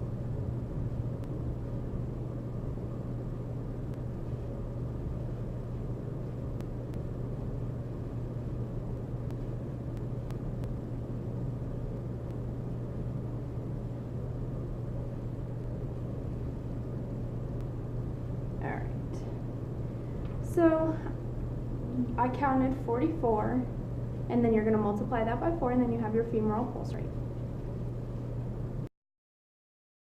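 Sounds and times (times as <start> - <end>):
steady low rumble: 0.0 - 28.9.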